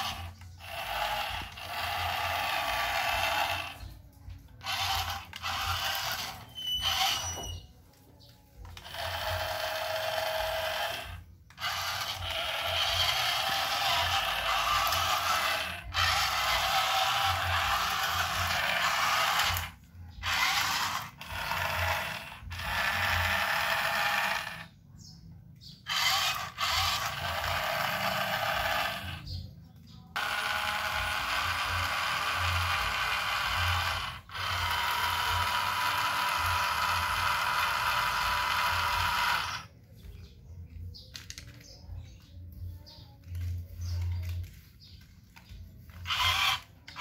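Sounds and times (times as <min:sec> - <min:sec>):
toy motor and gears whirring: 0:00.0 - 0:47.0.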